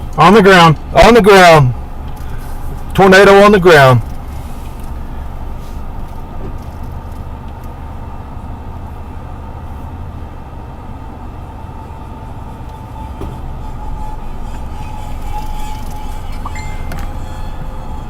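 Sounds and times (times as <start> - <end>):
distant tornado warning siren: 0.0 - 18.0
low rumble: 0.0 - 18.0.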